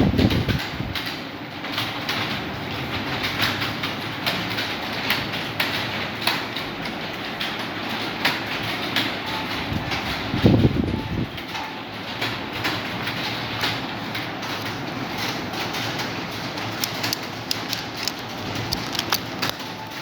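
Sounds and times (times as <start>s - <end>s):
keyboards typing clatter: 0.0s - 20.0s.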